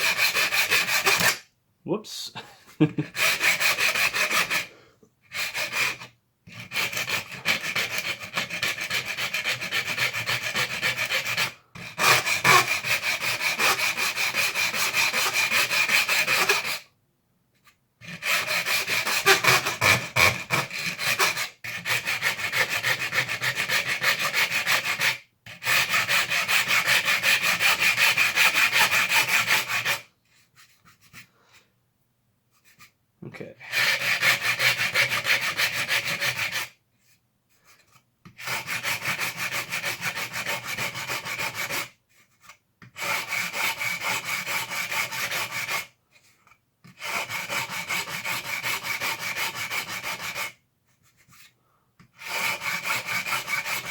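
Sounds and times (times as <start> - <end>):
hand file rasping: 0.0 - 1.4, 3.0 - 16.9, 18.0 - 31.3, 33.7 - 36.8, 37.6 - 46.0, 46.8 - 53.9.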